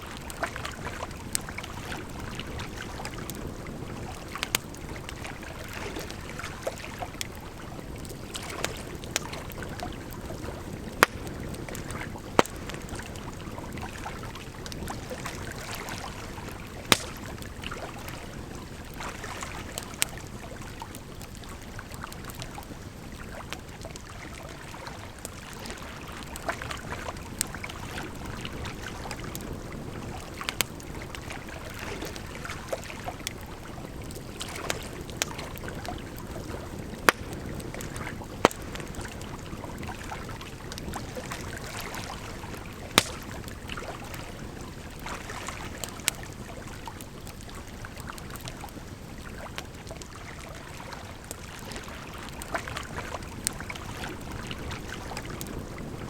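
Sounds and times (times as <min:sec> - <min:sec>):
campfire crackling: 0:00.0 - 0:56.0
wood popping in fire: 0:00.1 - 0:24.5, 0:25.1 - 0:44.8, 0:45.6 - 0:50.1.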